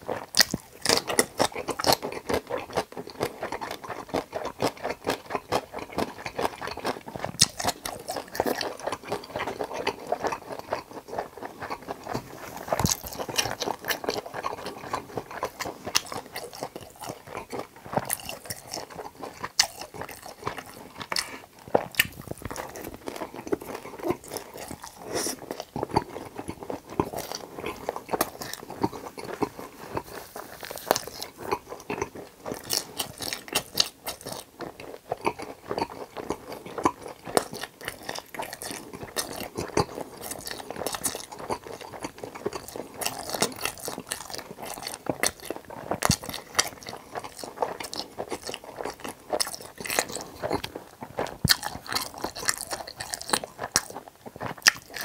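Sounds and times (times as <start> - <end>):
crunching and chewing fried food: 0.0 - 55.0.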